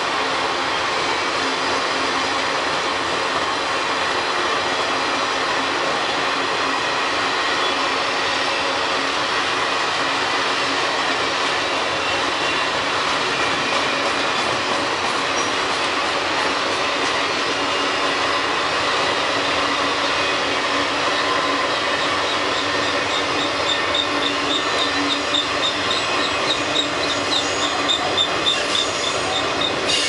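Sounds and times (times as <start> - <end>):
steel train wheels on rails: 0.0 - 30.0.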